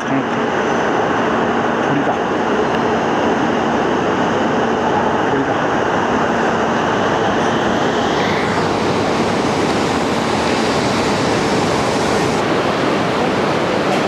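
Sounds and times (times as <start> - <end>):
high motor whine: 0.0 - 14.0
train rushing noise: 0.0 - 14.0.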